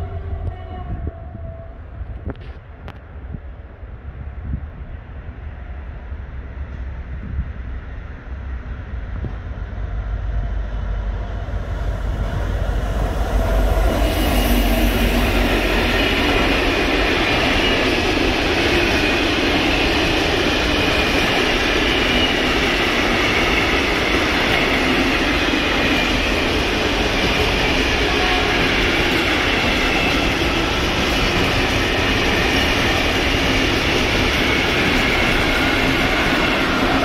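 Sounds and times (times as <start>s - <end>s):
train wheels rushing on rail: 0.0s - 37.0s.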